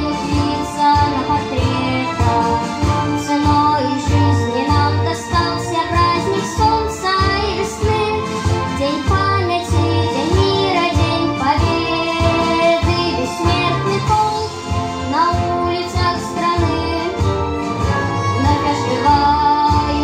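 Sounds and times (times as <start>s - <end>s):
boy singing into microphone: 0.0s - 17.3s, 18.4s - 20.0s
instrumental music with bass beat: 0.0s - 20.0s.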